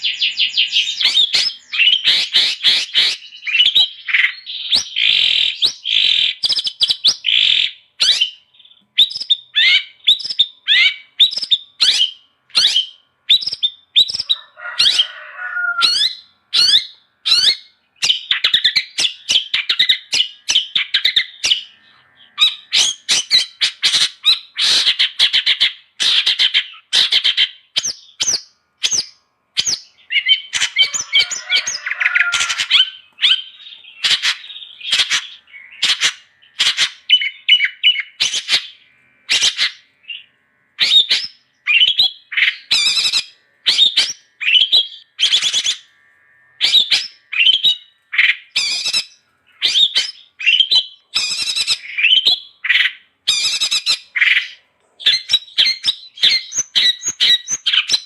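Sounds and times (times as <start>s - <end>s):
harsh scratchy bird chatter: 0.0s - 12.8s, 13.4s - 45.9s, 46.6s - 58.0s
shrike singing chirps and whistles: 0.0s - 45.9s, 46.6s - 58.0s.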